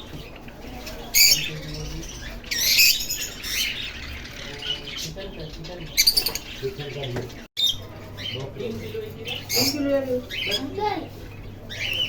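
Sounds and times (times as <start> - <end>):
canary chirping: 0.0 - 12.0.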